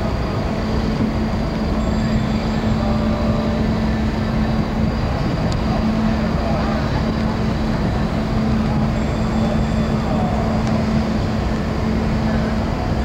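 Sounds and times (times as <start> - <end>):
ship engines humming: 0.0 - 13.0.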